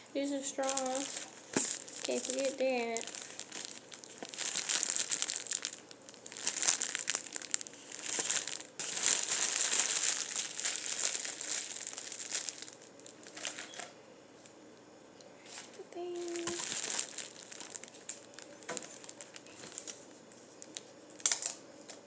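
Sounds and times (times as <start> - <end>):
plastic wrap crinkling: 0.2 - 13.9, 15.5 - 22.0.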